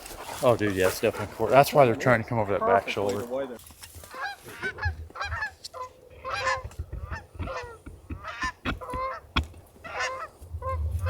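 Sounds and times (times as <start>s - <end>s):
geese honking and clucking: 0.0s - 11.0s.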